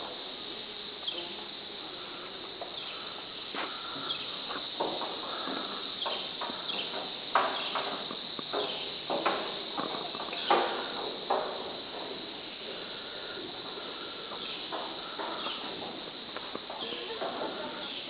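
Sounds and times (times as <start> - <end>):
insects droning: 0.0 - 18.0
footsteps on steel walkway: 2.5 - 18.0.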